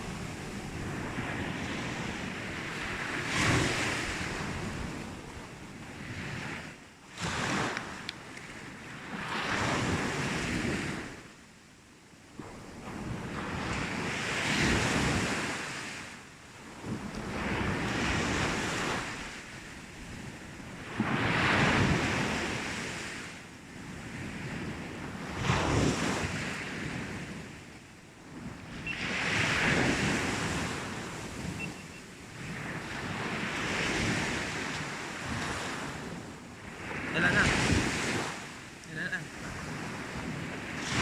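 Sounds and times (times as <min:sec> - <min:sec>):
sea waves breaking on a beach: 0:00.0 - 0:41.0.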